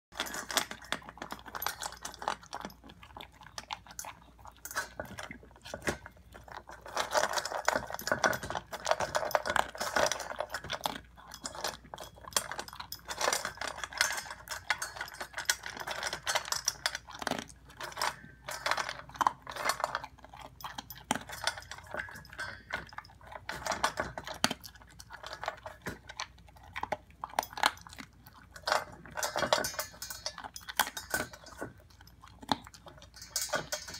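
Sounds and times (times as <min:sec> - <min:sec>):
dog crunching dry kibble: 0:00.1 - 0:33.9
kibble clinking on metal bowl: 0:00.1 - 0:33.9.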